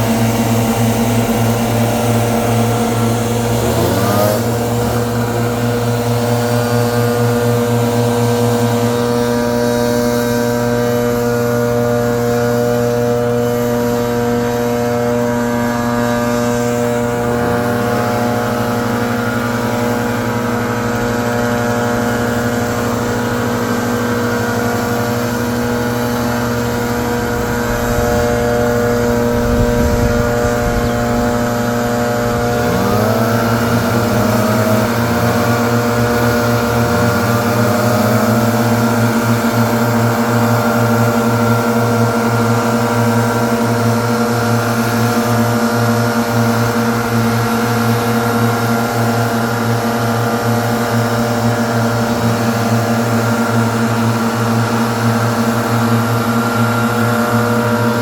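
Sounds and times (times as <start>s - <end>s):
leaf blower running: 0.0s - 58.0s.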